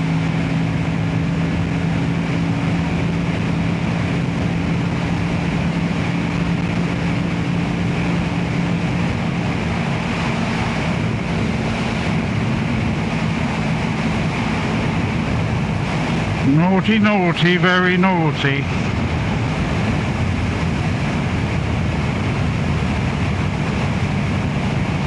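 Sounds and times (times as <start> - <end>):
motorcycle engine running: 0.0 - 25.0
wind rush on microphone: 0.0 - 25.0.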